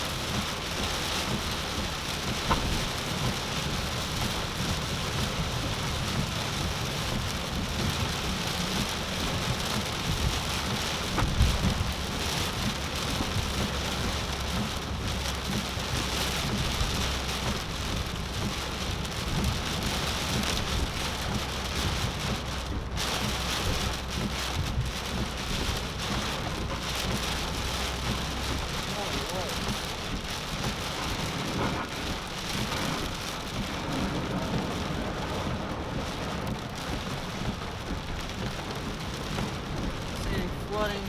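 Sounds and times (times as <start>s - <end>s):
heavy rain on car: 0.0s - 41.0s
road and engine hum: 0.0s - 41.0s.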